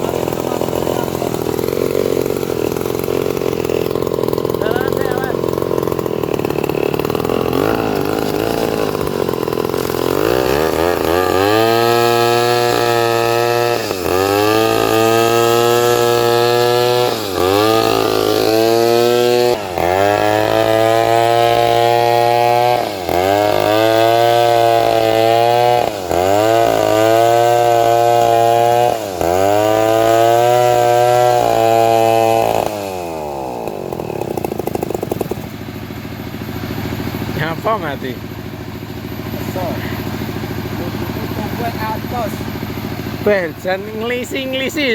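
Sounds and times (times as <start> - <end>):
chainsaw cutting log: 0.0 - 44.9
chainsaw idling: 0.0 - 44.9.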